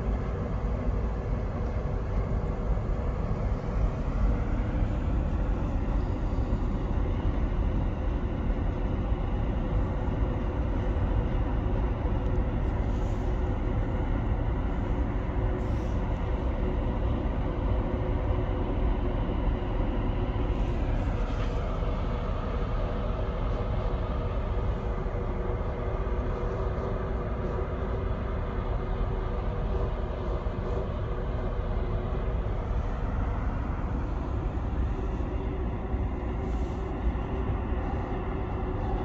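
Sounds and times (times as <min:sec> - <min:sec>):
ferry engines rumbling: 0:00.0 - 0:39.0.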